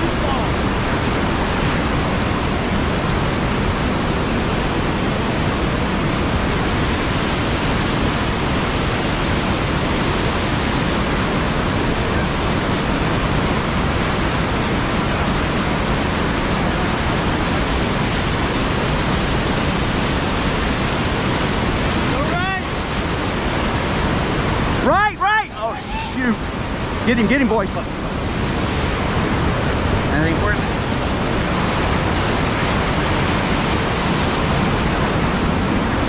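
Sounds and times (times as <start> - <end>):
water rushing over rocks: 0.0 - 36.0.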